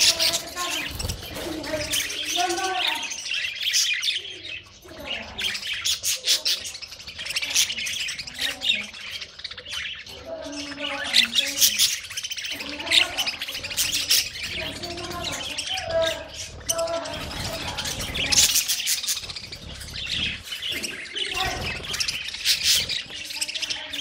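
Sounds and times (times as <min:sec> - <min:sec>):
budgerigars chirping: 0:00.0 - 0:24.0.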